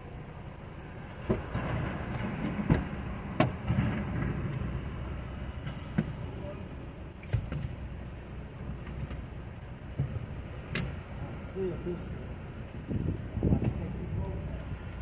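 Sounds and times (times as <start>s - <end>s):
car rumbling: 0.0s - 15.0s.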